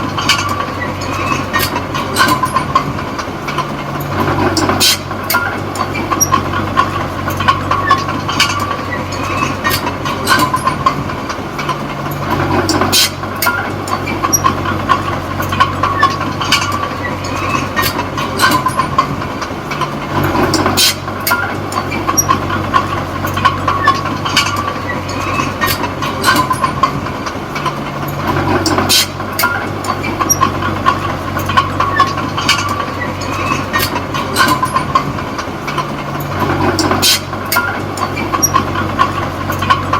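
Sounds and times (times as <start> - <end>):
bulldozer diesel engine running: 0.0 - 39.9
steel tracks clanking and squeaking: 0.0 - 39.9.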